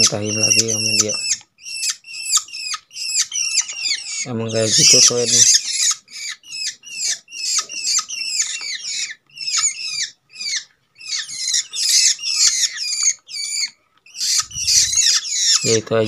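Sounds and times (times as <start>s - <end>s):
birds chirping rapidly: 0.0s - 16.0s.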